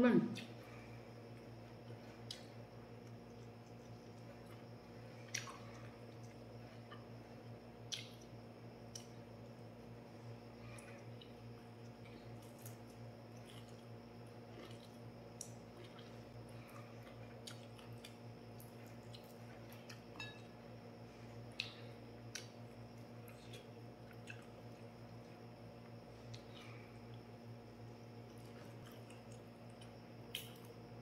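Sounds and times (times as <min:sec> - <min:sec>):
steady low hum: 0:00.0 - 0:31.0
chewing food: 0:00.3 - 0:09.6, 0:10.6 - 0:20.7, 0:21.3 - 0:27.4, 0:28.2 - 0:30.8.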